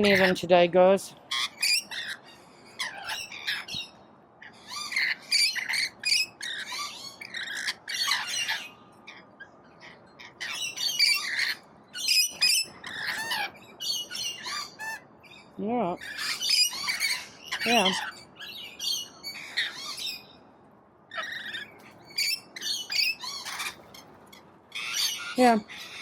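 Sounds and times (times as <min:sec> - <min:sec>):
parrots screeching and squawking: 0:00.0 - 0:00.5, 0:01.3 - 0:15.1, 0:16.0 - 0:20.4, 0:21.1 - 0:26.0.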